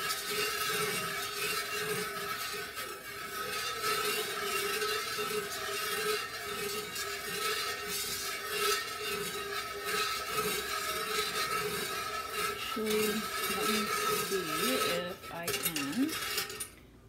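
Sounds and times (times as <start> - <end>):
metal utensil scraping a pot: 0.0 - 16.8.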